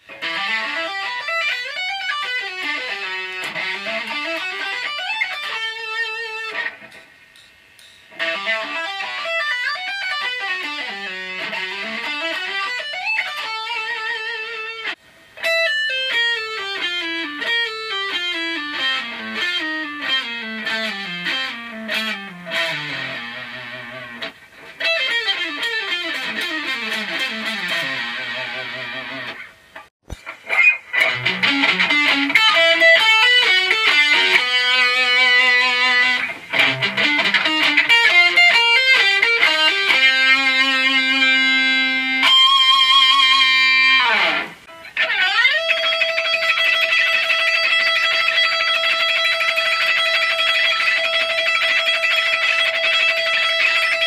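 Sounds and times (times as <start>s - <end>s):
electric guitar solo: 0.0s - 7.0s, 8.1s - 54.0s.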